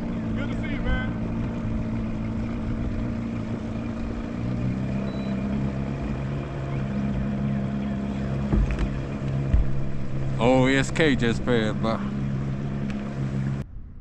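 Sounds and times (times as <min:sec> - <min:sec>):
motorboat engine passing by: 0:00.0 - 0:13.9.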